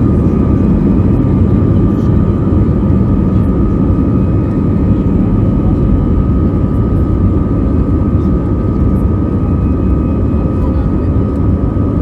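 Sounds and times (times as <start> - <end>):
high engine whine: 0.0 - 12.0
jet engine cabin rumble: 0.0 - 12.0.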